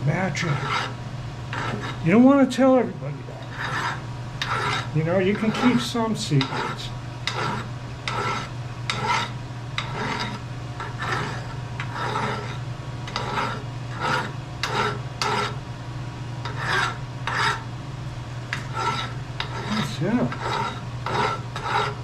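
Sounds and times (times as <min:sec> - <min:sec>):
steady low hum: 0:00.0 - 0:22.0
hand file scraping metal: 0:00.3 - 0:02.0, 0:03.4 - 0:15.6, 0:16.4 - 0:17.6, 0:18.5 - 0:22.0.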